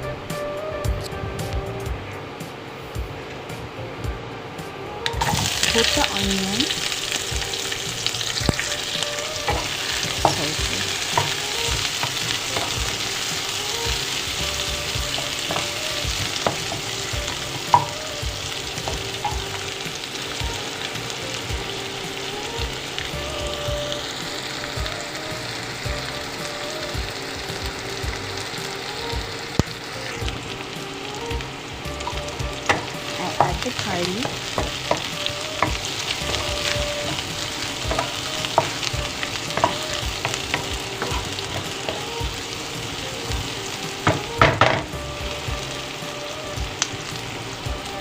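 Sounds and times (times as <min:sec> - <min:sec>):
onion sizzling in oil: 0:00.0 - 0:48.0.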